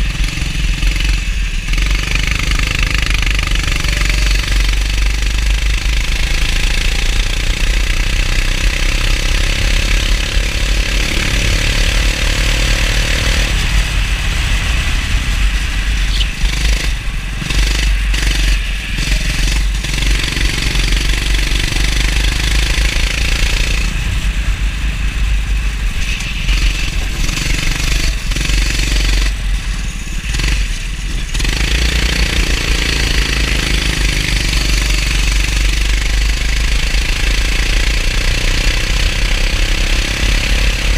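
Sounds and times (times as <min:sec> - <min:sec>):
kart engine running hard: 0:00.0 - 0:40.9.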